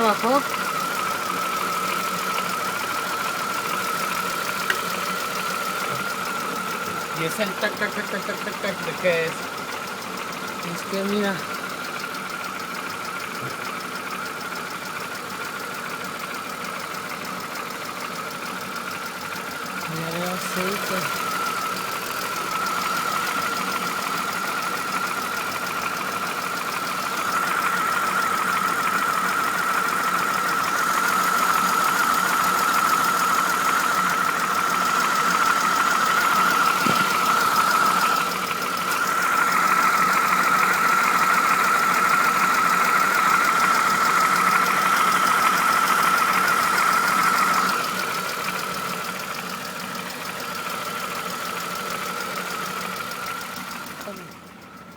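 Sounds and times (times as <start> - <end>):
car engine running: 0.0 - 54.9.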